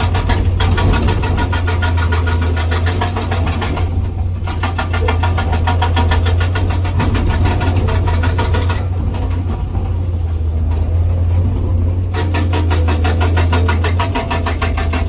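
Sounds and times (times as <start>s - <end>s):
diesel engine running: 0.0s - 15.0s
hydraulic rock breaker hammering: 0.0s - 15.0s.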